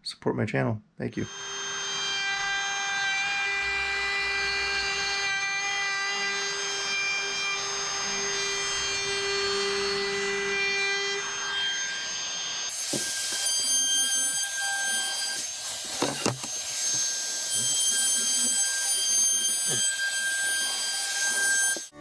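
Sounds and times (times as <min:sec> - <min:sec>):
router motor whining: 0:01.2 - 0:22.0.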